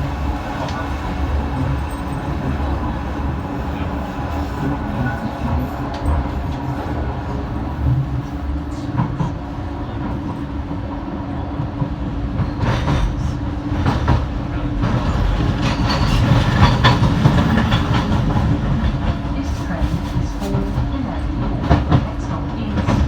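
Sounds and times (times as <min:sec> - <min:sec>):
train carriage rumble: 0:00.0 - 0:23.0.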